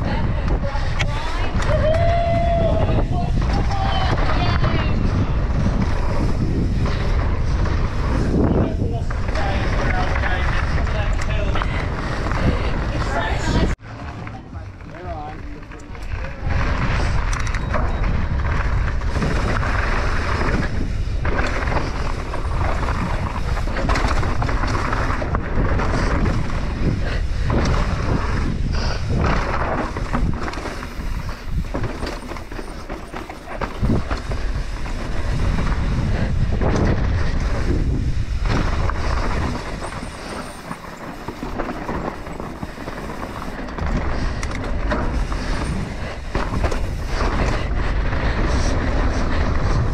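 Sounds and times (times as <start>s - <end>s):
bike rattling over bumps: 0.0s - 49.9s
tyres rolling over loose dirt: 0.0s - 49.9s
wind buffeting microphone: 0.0s - 49.9s.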